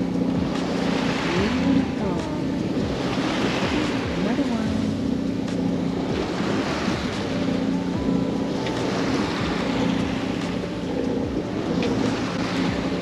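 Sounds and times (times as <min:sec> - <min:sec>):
boat engine drone: 0:00.0 - 0:13.0
water splashing along hull: 0:00.0 - 0:13.0.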